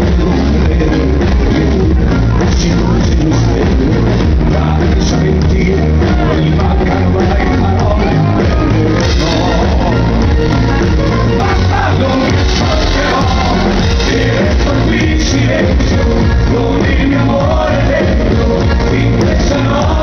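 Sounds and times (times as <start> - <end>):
heavy bass beat: 0.0 - 20.0
live band music through pa: 0.0 - 20.0
man singing: 0.0 - 20.0.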